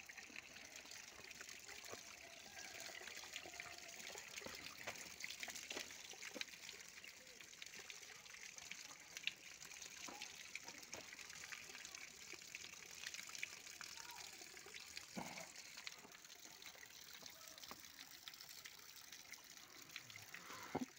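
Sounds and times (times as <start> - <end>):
water trickling over stone: 0.0 - 20.9.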